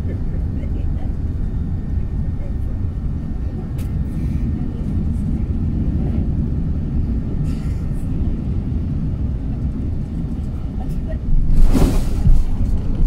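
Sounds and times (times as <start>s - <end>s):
airplane engine and wheel rumble: 0.0s - 13.0s.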